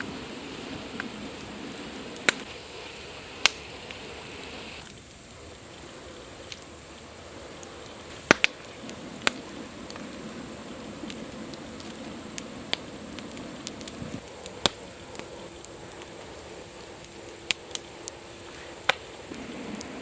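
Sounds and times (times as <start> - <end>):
campfire crackling: 0.0 - 20.0
fire pops: 0.0 - 20.0
low fire hiss: 0.0 - 20.0.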